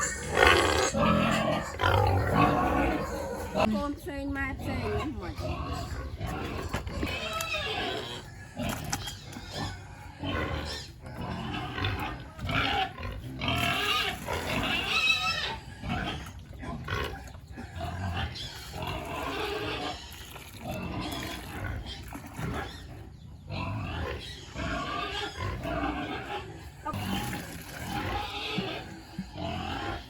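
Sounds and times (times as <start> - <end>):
pigs grunting and squealing: 0.0 - 30.0.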